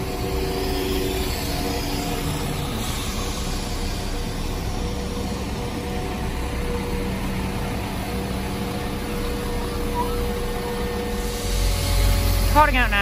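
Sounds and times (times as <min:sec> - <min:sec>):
diesel train engines idling: 0:00.0 - 0:13.0.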